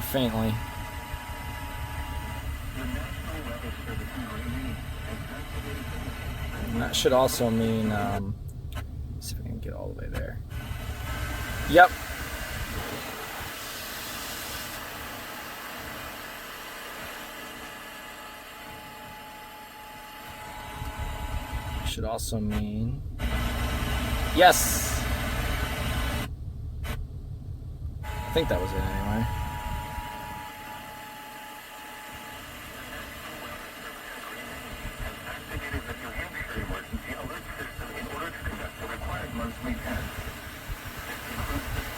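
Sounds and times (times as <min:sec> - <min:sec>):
fm radio static hiss: 0:00.0 - 0:08.3, 0:10.2 - 0:27.0, 0:28.1 - 0:41.9.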